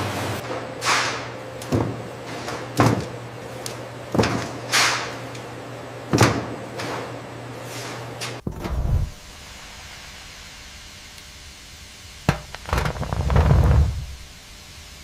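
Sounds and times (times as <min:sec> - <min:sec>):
machinery low hum: 0:00.0 - 0:15.0.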